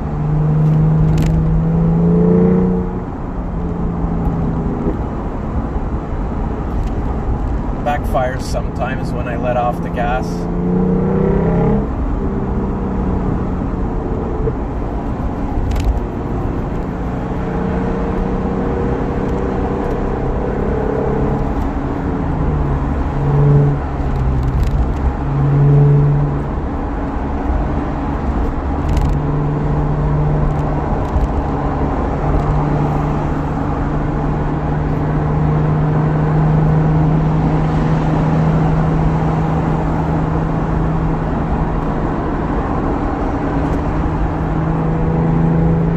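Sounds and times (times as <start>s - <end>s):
car engine while driving: 0.0s - 45.9s
road noise: 0.0s - 45.9s.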